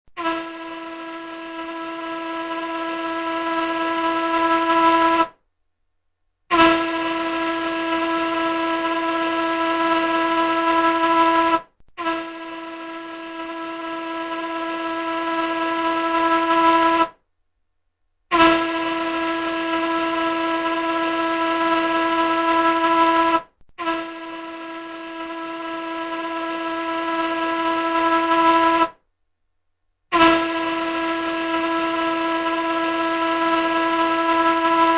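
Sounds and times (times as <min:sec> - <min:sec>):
ship's horn blasts: 0:00.1 - 0:05.4, 0:06.5 - 0:17.2, 0:18.3 - 0:29.0, 0:30.1 - 0:34.9.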